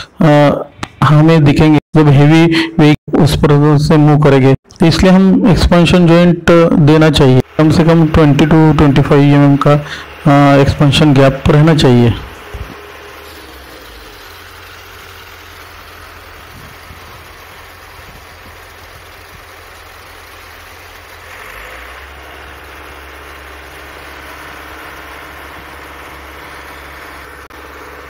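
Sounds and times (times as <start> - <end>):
truck engine humming: 5.1 - 28.0.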